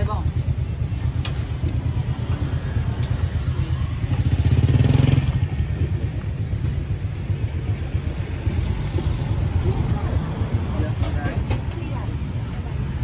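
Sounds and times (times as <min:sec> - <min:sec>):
motorbike passing: 0:00.0 - 0:13.0
street traffic rumble: 0:00.0 - 0:13.0.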